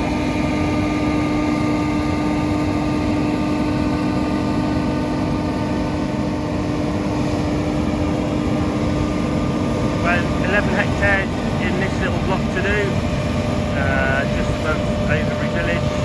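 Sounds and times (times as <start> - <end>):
combine harvester droning: 0.0 - 16.0.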